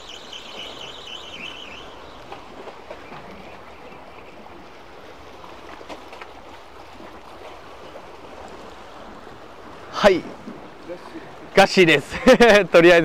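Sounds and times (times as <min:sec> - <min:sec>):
sea water washing among concrete: 0:00.0 - 0:13.0.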